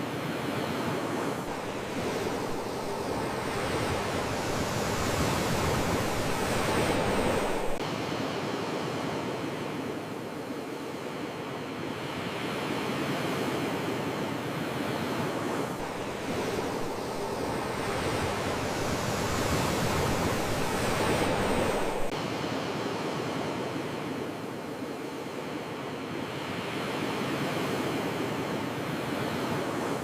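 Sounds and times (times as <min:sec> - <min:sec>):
sea waves washing ashore: 0:00.0 - 0:30.0.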